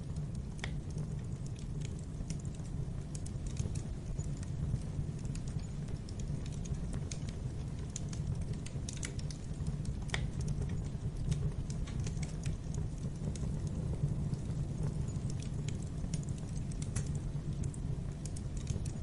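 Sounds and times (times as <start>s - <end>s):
low rumble of burning logs: 0.0s - 19.0s
wood fire crackling: 0.0s - 19.0s.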